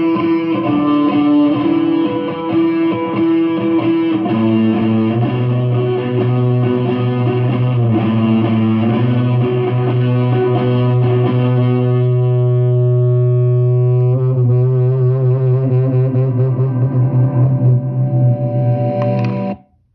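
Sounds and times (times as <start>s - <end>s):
electric guitar notes: 0.0s - 19.7s.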